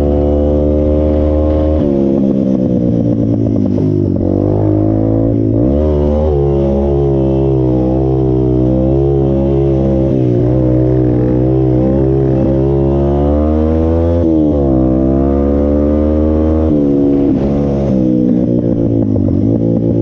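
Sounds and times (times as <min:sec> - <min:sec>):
off-road vehicle engine revving: 0:03.3 - 0:20.0.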